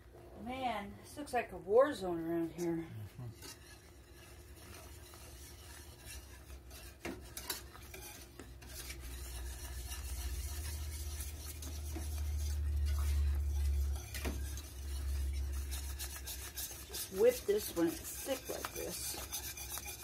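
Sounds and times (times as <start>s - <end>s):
whisk scraping and clinking on pan: 3.3s - 20.0s.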